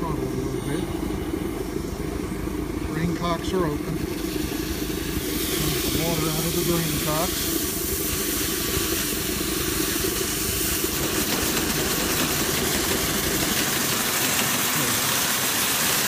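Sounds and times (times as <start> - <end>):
steam engine hissing and beating: 0.0 - 16.0.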